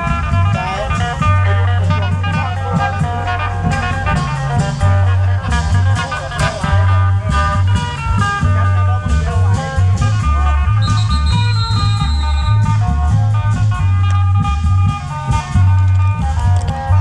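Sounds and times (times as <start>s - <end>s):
heavy bass and drums: 0.0s - 17.0s
plucked string melody: 0.0s - 17.0s.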